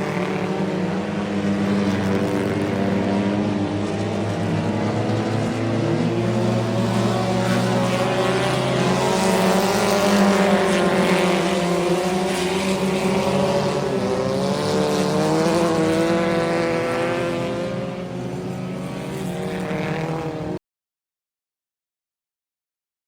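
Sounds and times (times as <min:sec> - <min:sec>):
race car engines: 0:00.0 - 0:20.6.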